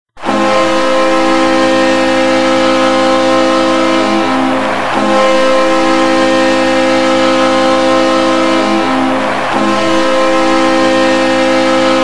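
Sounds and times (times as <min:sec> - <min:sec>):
goal horn blaring: 0:00.1 - 0:12.0.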